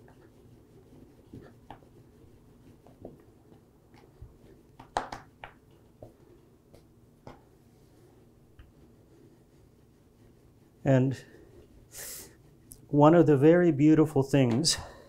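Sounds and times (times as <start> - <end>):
rolling pin rolling dough: 0.0 - 13.7
faint steady hum: 0.0 - 15.0.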